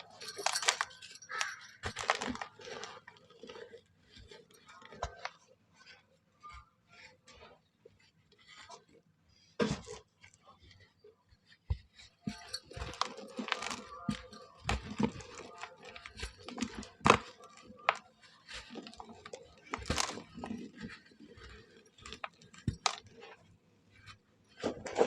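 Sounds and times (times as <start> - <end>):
dry mud shapes crunching and crumbling: 0.0 - 25.0.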